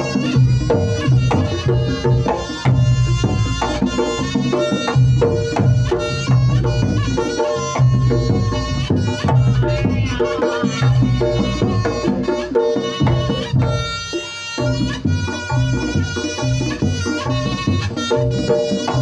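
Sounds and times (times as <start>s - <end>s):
hand drums beating: 0.0s - 19.0s
reedy wind instrument melody: 0.0s - 19.0s.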